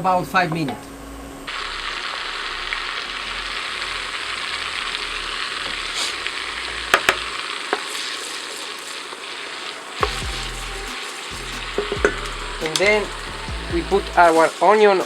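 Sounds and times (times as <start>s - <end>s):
onion sizzling in a pan: 1.5s - 15.0s.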